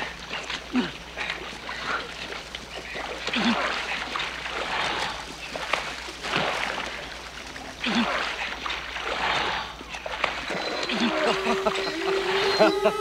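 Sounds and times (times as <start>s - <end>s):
water splashing from wading: 0.0s - 13.0s.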